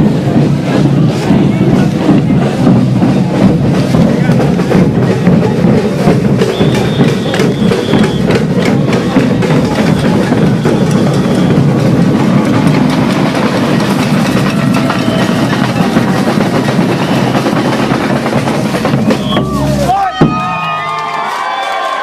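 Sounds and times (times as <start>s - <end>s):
sharp drum strikes: 0.0s - 20.7s
marching band music: 0.0s - 20.9s.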